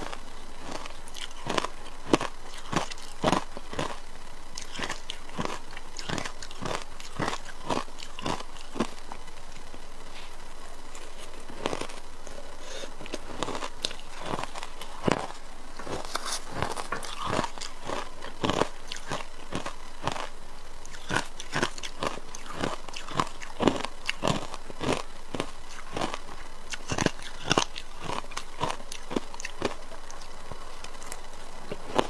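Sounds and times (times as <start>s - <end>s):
person chewing ice: 0.0s - 32.0s.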